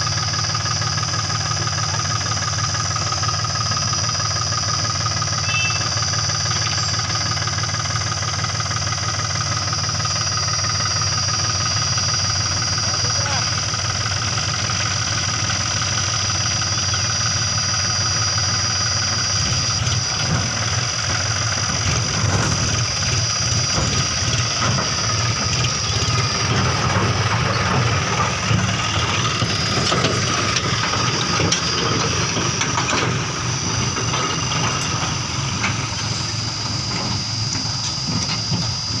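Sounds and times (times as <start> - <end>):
high-pitched whine: 0.0 - 39.0
tractor diesel engine running: 0.0 - 39.0.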